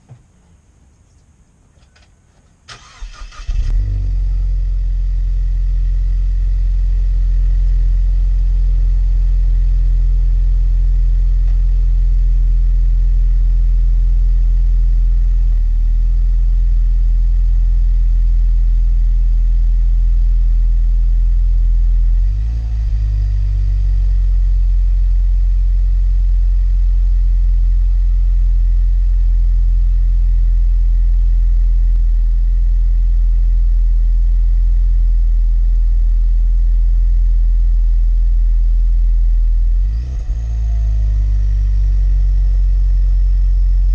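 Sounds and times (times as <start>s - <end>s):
car engine starting and idling: 2.0s - 43.9s.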